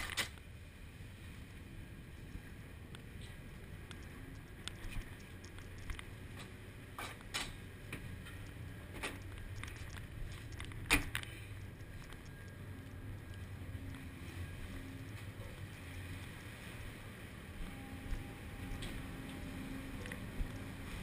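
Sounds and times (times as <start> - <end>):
ship engine rumble: 0.4 - 21.0.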